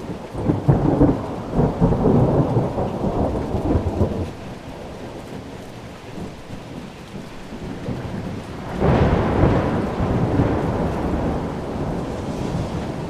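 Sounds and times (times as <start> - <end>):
thunder rumbling: 0.0 - 5.6, 7.5 - 13.0
steady rain: 0.0 - 13.0.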